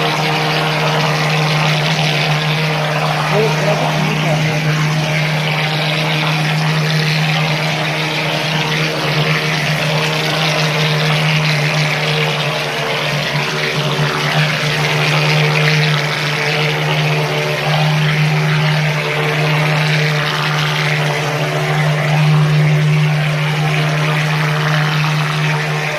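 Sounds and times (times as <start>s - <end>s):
plastering machine hum and hiss: 0.0s - 25.9s.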